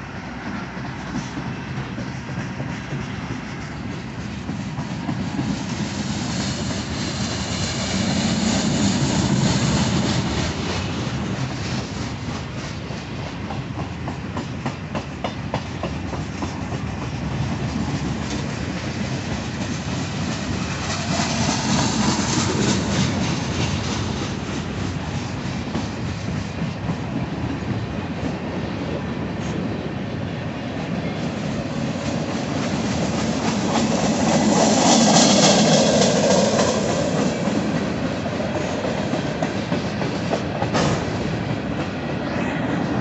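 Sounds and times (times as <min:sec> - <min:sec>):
clickety-clack over rail joints: 0:00.0 - 0:43.0
train wheels rumbling: 0:00.0 - 0:43.0.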